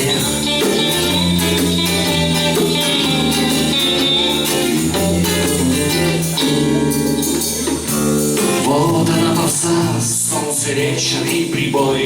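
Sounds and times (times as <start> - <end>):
guitar: 0.0 - 12.0
live band playing: 0.0 - 12.0
sustained bass line: 0.0 - 12.0.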